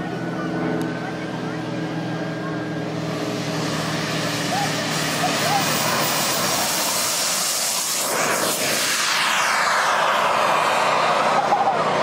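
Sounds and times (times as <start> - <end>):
jet turbine engine whine: 0.0 - 12.0.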